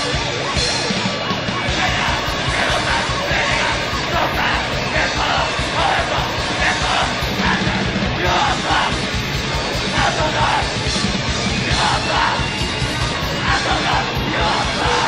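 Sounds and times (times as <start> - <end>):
distorted guitar and bass: 0.0 - 15.0
fast pounding drums: 0.0 - 15.0.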